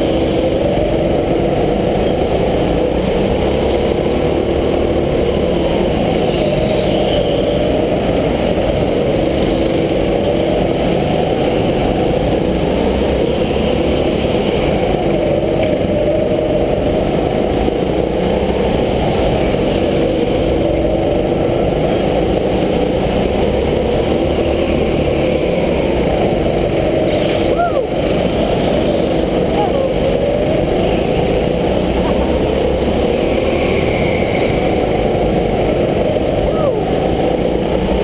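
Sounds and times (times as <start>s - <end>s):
go-kart engine revving: 0.0s - 38.0s
steady low rumble: 7.4s - 38.0s.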